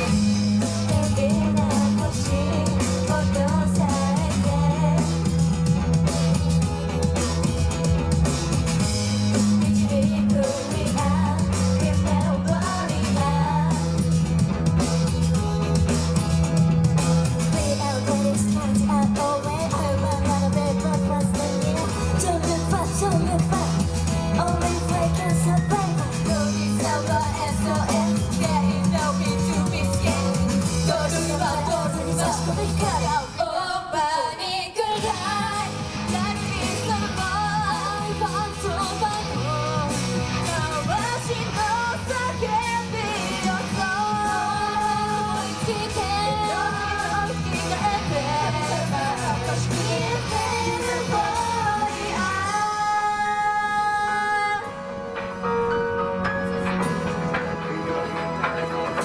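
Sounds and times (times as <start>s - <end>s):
women singing pop song: 0.0s - 7.6s, 8.7s - 15.2s, 17.3s - 55.4s
backing track through club pa: 0.0s - 59.0s.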